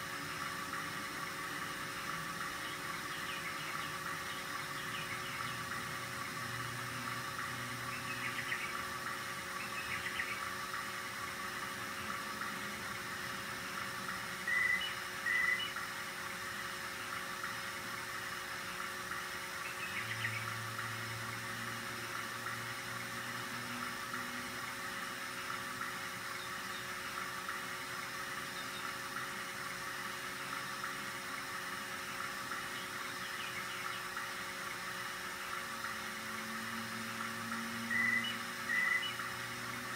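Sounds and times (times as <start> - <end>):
cassette deck motor whirring: 0.0 - 39.9.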